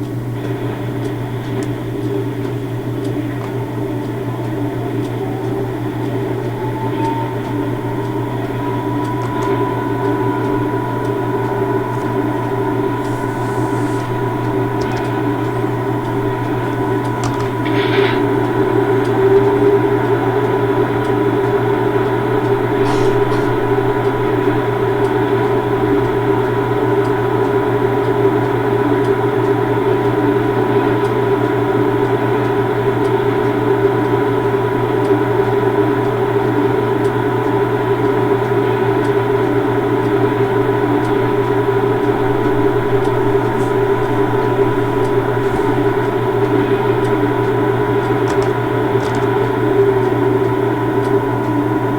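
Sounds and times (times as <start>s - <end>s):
train machinery hum: 0.0s - 51.9s.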